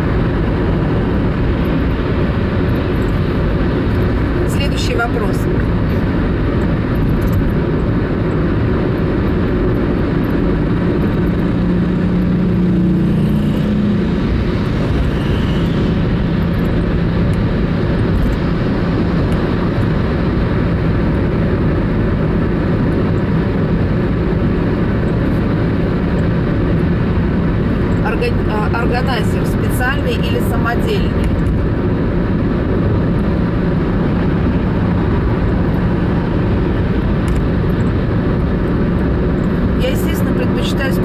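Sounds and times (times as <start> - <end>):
car road and engine rumble: 0.0 - 41.0
low engine hum: 0.0 - 41.0.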